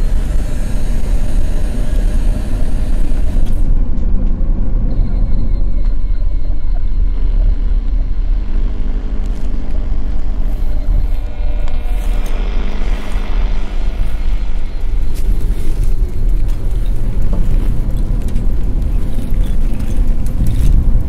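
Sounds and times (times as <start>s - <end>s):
deep rumbling drone: 0.0s - 21.0s
steady tones: 0.0s - 21.0s.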